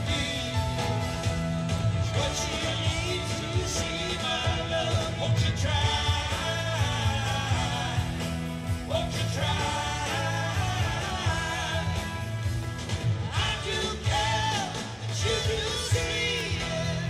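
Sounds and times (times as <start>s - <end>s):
live rock band playing: 0.0s - 17.0s
person singing lead vocal: 0.0s - 17.0s.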